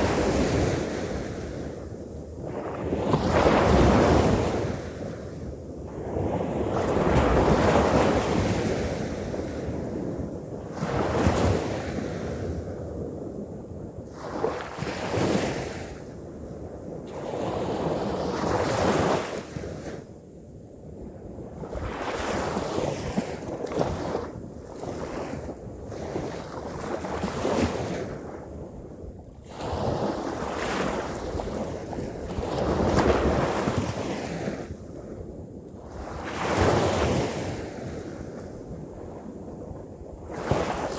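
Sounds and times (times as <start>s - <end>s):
ocean waves breaking on beach: 0.0s - 16.2s, 16.9s - 20.1s, 21.5s - 35.2s, 35.8s - 40.9s
wind buffeting microphone: 0.0s - 40.9s.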